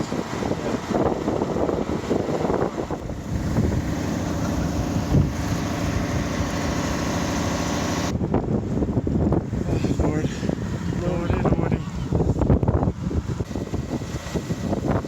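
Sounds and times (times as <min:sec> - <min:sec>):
large vehicle engine humming: 0:00.0 - 0:15.0
wind buffeting microphone: 0:00.0 - 0:15.0.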